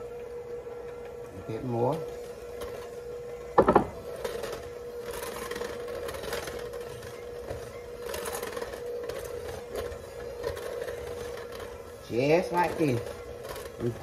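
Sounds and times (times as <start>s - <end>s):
electric mixer motor hum: 0.0s - 14.0s.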